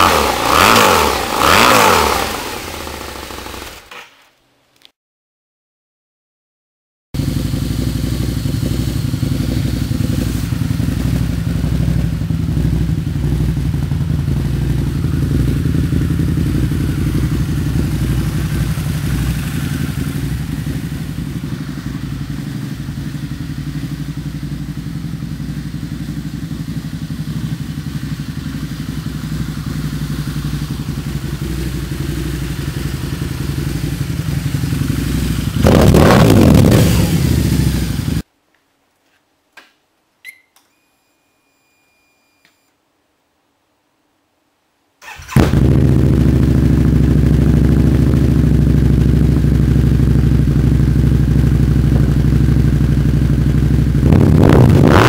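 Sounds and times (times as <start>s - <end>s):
motorcycle engine running: 0.0s - 3.9s, 7.2s - 38.2s, 45.2s - 55.0s.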